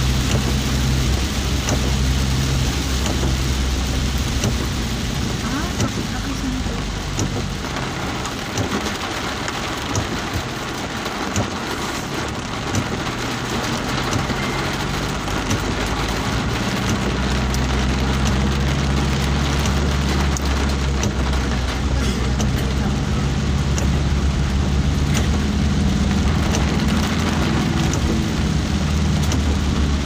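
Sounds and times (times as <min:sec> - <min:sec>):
heavy rain pelting a vehicle: 0:00.0 - 0:30.0
vehicle engine running: 0:00.0 - 0:30.0.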